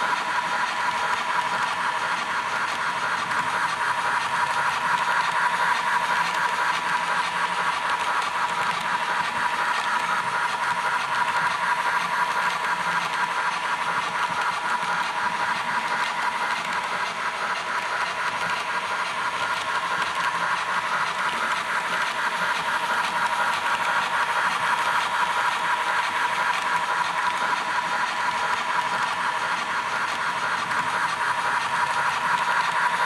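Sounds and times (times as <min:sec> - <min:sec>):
model train humming and ticking: 0:00.0 - 0:33.0.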